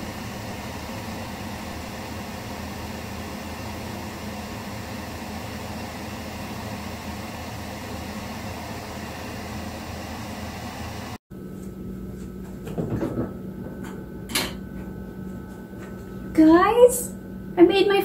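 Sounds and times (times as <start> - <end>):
exhaust fan rushing: 0.0 - 18.0
low machine hum: 0.0 - 18.0.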